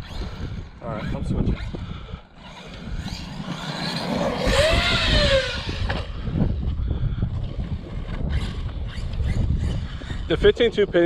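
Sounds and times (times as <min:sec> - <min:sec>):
electric motor whining: 0:00.0 - 0:06.7, 0:08.0 - 0:10.4
tyres rumbling on rough ground: 0:00.0 - 0:09.0.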